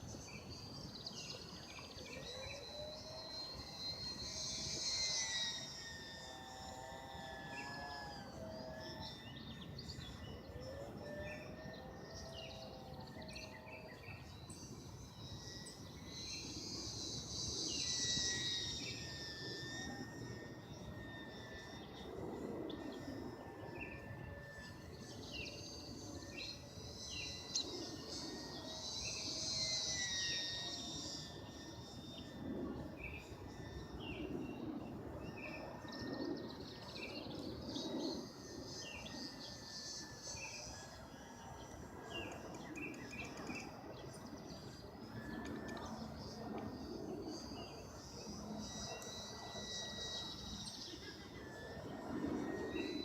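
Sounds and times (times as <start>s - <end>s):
insects and birds chirping: 0.0s - 53.0s
model plane electric motor whine: 0.0s - 53.0s.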